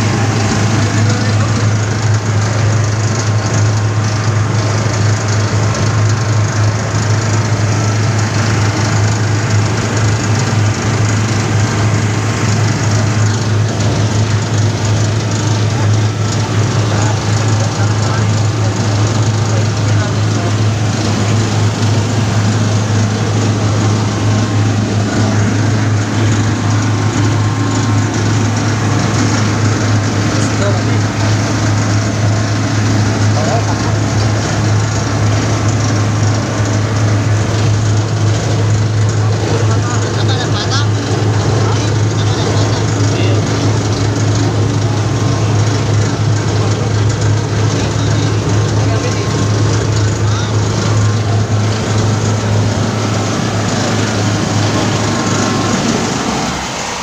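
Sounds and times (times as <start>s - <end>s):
mechanical rattle: 0.0s - 57.0s
threshing machine running: 0.0s - 57.0s.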